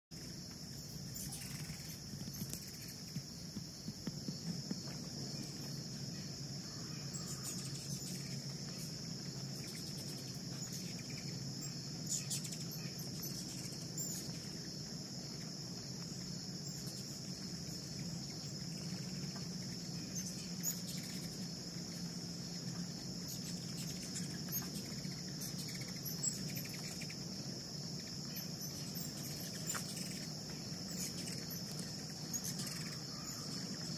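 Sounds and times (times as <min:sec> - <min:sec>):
insects chorus in trees: 0:00.1 - 0:33.9
low steady hum: 0:00.2 - 0:33.9.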